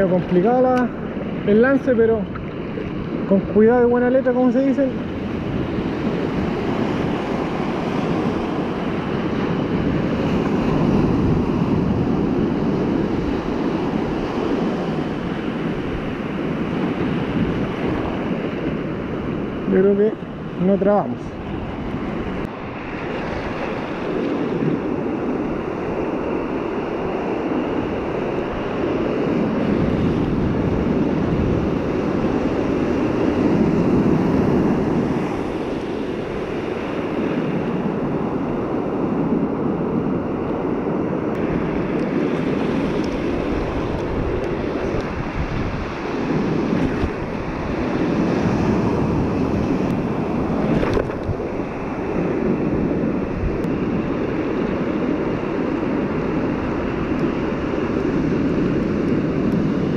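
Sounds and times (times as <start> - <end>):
ocean surf washing in: 0.0 - 59.9
wind on microphone: 0.0 - 59.9.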